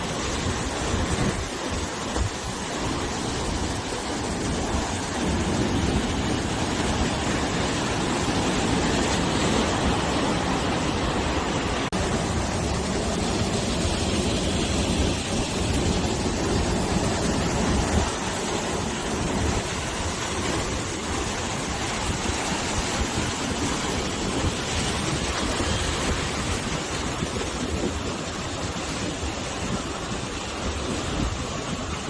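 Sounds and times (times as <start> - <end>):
sea waves breaking on shore: 0.0 - 32.0
wind: 0.0 - 32.0.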